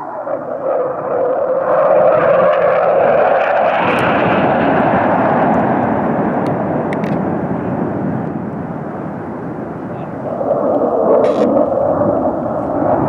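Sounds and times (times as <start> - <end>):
fighter jet roar passing overhead: 0.0 - 13.0.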